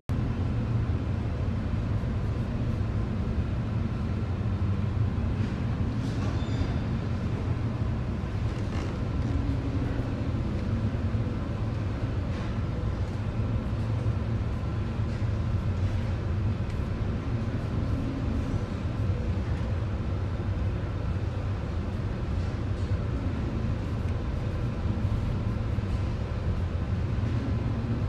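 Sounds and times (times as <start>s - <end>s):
ship low rumble: 0.1s - 28.0s
wind: 0.1s - 28.0s.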